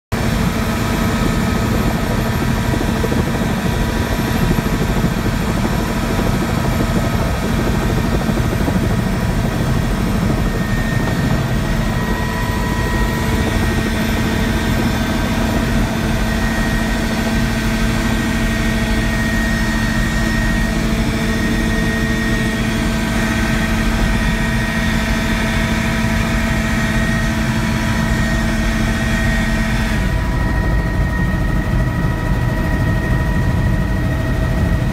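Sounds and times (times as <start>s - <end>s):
helicopter engine and rotors: 0.1s - 34.9s.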